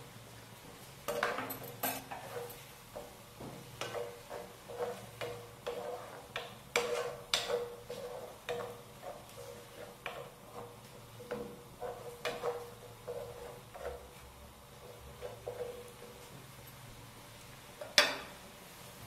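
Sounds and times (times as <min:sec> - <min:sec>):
wooden spoon scraping a pan: 0:01.1 - 0:16.5.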